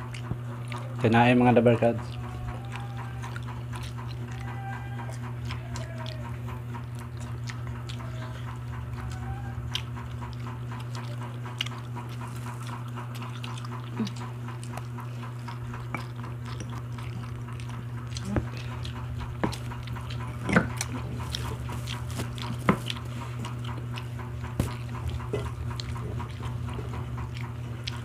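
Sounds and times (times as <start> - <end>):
people chewing: 0.0 - 28.0
steady low hum: 0.0 - 28.0.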